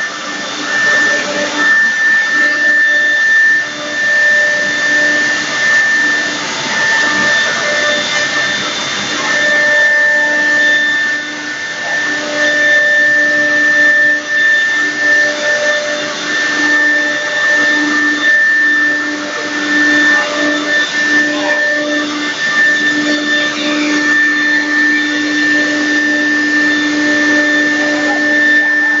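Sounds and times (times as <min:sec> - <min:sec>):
router machine whine and rushing: 0:00.0 - 0:29.0.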